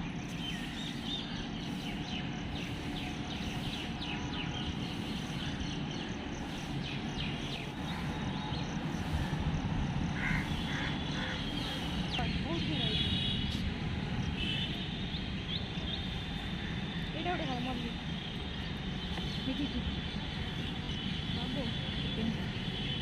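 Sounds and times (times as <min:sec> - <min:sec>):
steady low rumble: 0:00.0 - 0:22.8.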